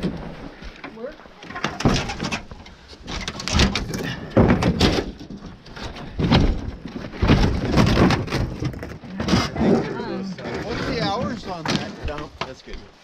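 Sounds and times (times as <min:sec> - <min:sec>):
scrap debris thudding and banging: 0:01.4 - 0:12.6.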